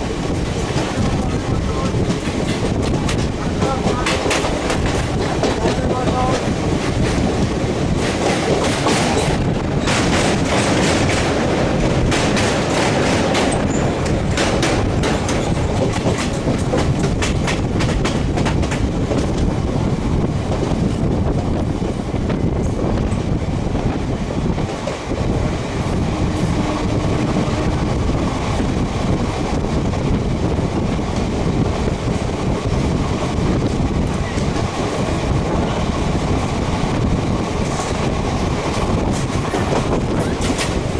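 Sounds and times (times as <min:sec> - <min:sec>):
clatter over rail joints: 0:00.0 - 0:30.6, 0:31.2 - 0:40.9
train wheels rumbling on rails: 0:00.0 - 0:40.9.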